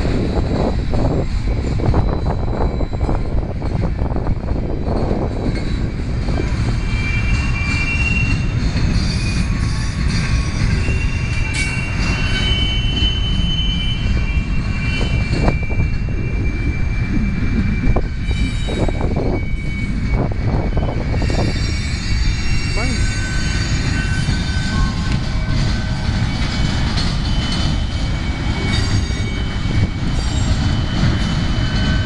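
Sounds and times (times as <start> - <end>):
train wheels rumbling on rail: 0.0 - 32.0
wheel squeal: 1.4 - 3.4, 6.4 - 32.0.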